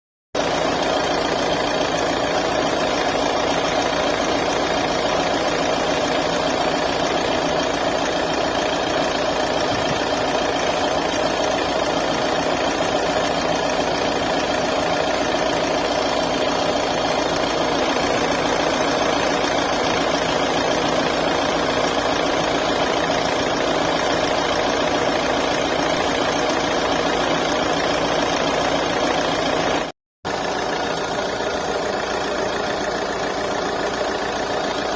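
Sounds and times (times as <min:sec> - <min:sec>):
compressor noise: 0:00.4 - 0:34.9
diesel engine idling: 0:00.4 - 0:34.9.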